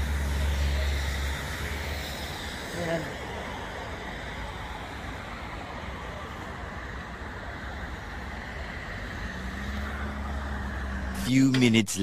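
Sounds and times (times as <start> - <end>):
approaching vehicle engine hum: 0.0 - 12.0
passing cars: 0.0 - 12.0.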